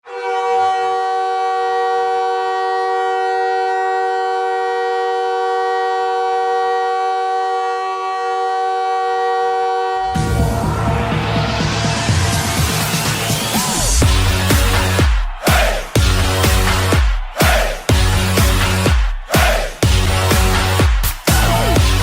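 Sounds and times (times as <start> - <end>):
goal horn blast: 0.0 - 12.6, 13.6 - 22.0.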